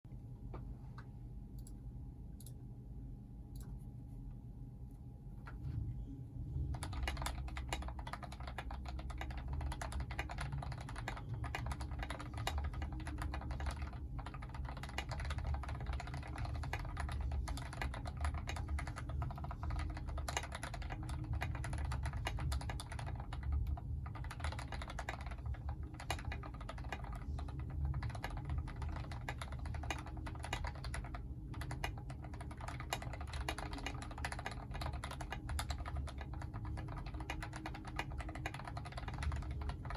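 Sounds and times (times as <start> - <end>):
fast typing on mechanical keyboard: 6.7 - 39.9.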